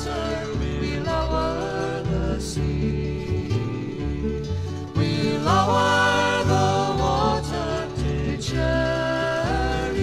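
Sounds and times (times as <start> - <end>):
acoustic guitar accompaniment: 0.0 - 10.0.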